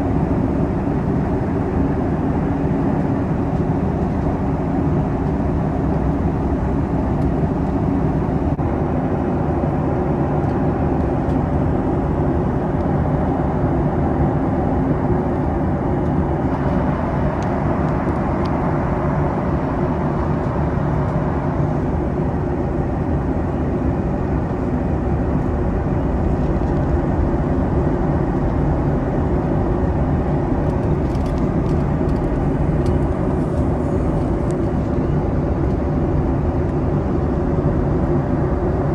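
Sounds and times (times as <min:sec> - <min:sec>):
airliner cabin noise in flight: 0:00.0 - 0:38.9.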